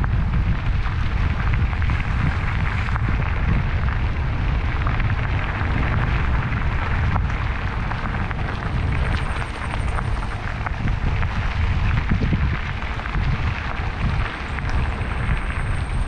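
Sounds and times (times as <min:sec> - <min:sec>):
bike tyres crackling on trail: 0:00.0 - 0:16.0
wind rumbling on microphone: 0:00.0 - 0:16.0.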